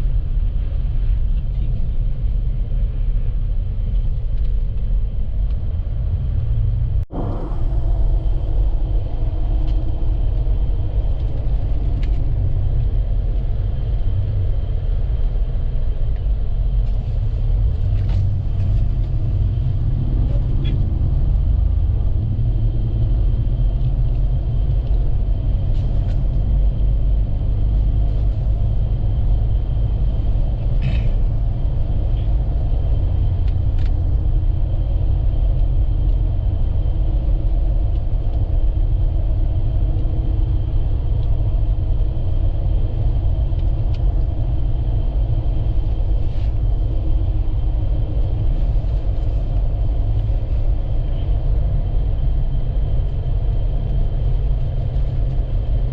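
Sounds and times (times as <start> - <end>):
vehicle rumble inside cab: 0.0 - 55.9.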